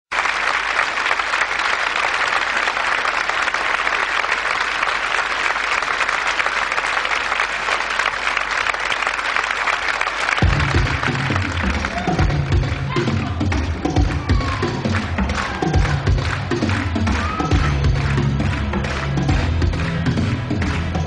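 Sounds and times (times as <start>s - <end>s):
large audience applauding: 0.1s - 21.0s.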